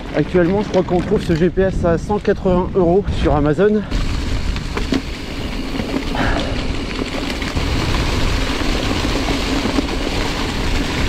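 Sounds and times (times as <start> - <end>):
bike rattling: 0.0 - 11.0
tyres rolling over leaves: 0.0 - 11.0
wind buffeting microphone: 0.0 - 11.0.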